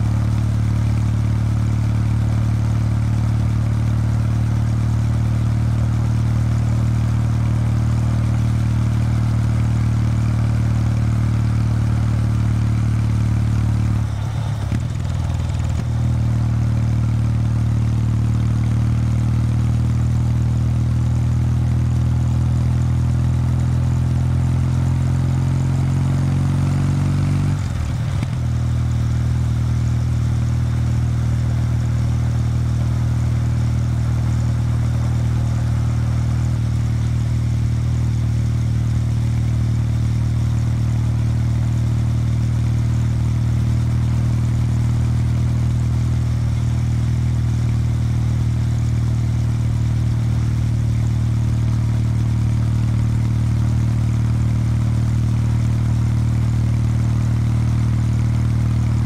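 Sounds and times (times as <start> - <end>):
motorcycle engine riding: 0.0 - 59.0.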